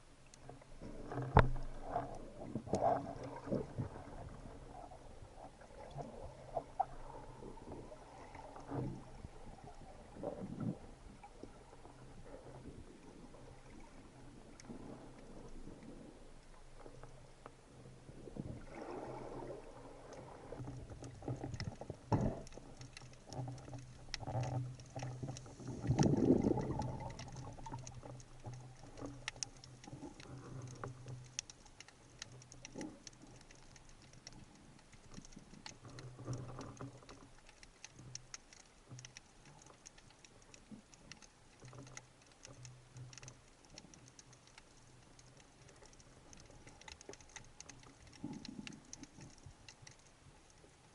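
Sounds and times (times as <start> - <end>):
crackle of sharp underwater clicks: 0.0 - 17.6, 18.3 - 50.9
low steady underwater hum: 0.0 - 50.9
water swishes: 0.0 - 50.9.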